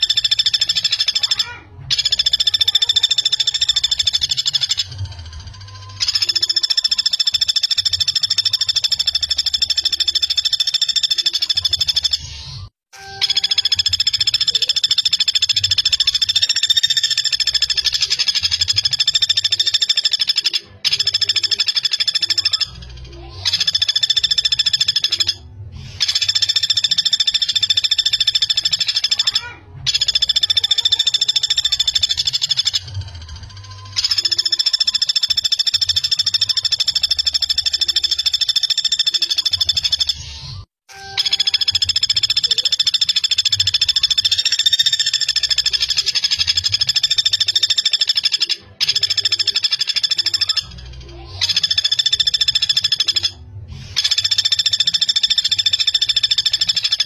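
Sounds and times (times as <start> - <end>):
woodpecker calling: 0.0 - 57.0.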